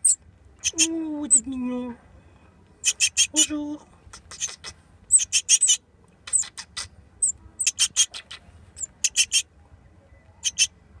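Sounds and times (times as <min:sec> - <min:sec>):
nestlings chirping: 0:00.0 - 0:09.5, 0:10.2 - 0:10.8.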